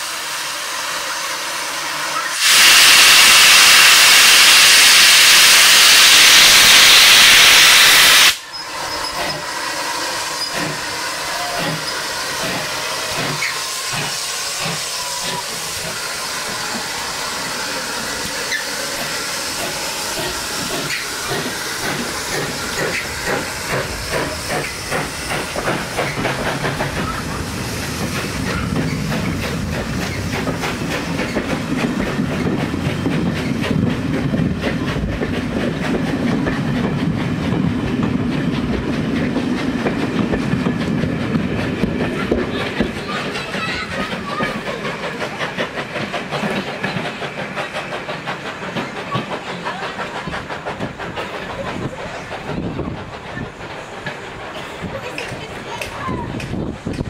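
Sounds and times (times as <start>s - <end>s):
loud steam hiss: 0.0s - 57.0s
train running past rhythmically: 0.0s - 57.0s.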